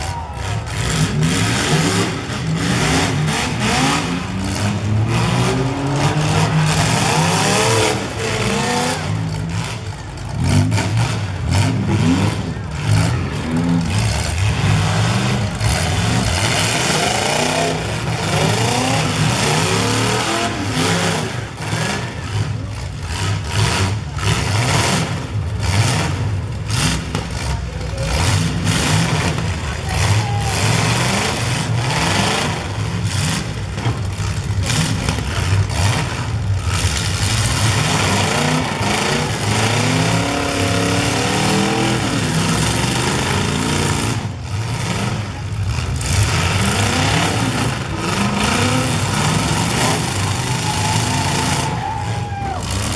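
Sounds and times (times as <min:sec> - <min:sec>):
car engines revving hard: 0:00.0 - 0:52.9
cars crashing together: 0:00.0 - 0:52.9.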